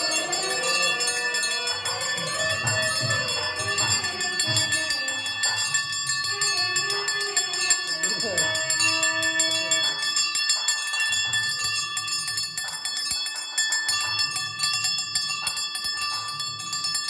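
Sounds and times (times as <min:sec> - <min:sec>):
temple bells ringing rapidly: 0:00.0 - 0:17.0.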